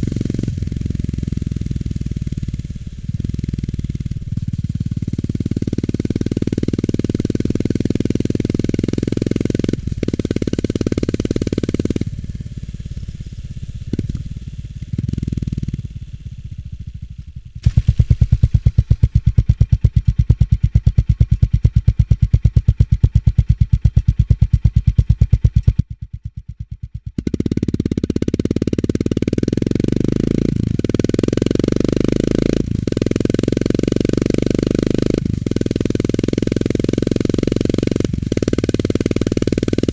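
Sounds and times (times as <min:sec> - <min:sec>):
motorcycle engine idling: 0:00.0 - 0:39.9
motorcycle engine running: 0:00.0 - 0:39.9.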